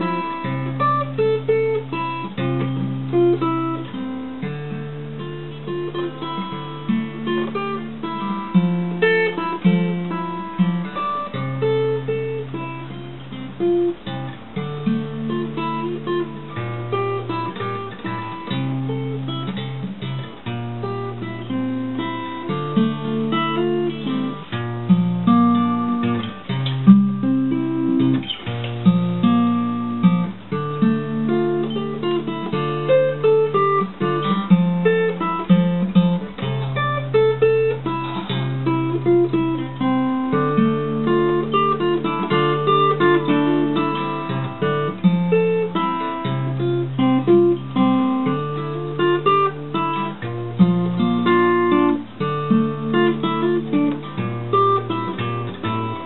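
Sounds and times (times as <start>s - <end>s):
acoustic guitar plucking: 0.0s - 56.0s.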